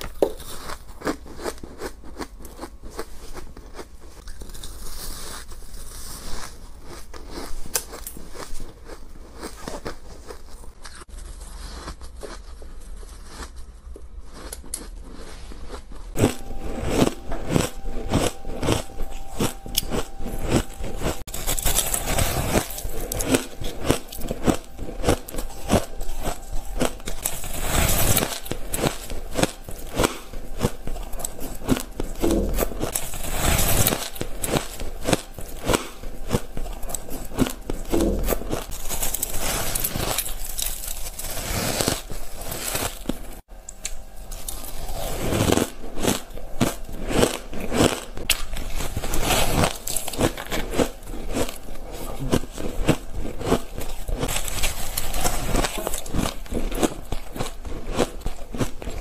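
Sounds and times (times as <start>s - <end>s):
crunching ice chewing: 0.0s - 59.0s.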